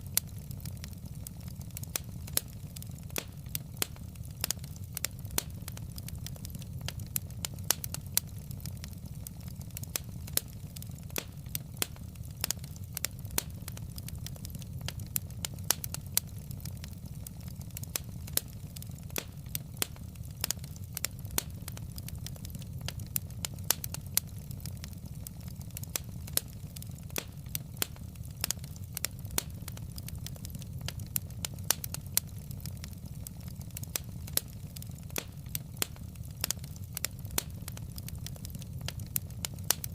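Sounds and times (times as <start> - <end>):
log fire crackling and popping: 0.0 - 39.9
low fire rumble: 0.0 - 39.9.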